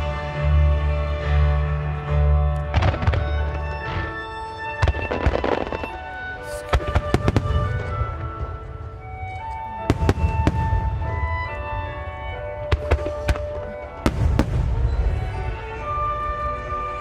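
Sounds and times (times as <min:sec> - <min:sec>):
music with held notes: 0:00.0 - 0:17.0
fireworks bursting with bangs: 0:02.7 - 0:17.0.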